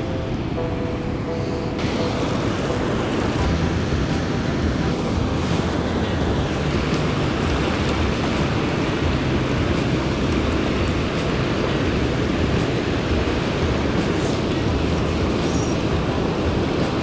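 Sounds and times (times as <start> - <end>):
water pouring from spillway: 3.3 - 17.0.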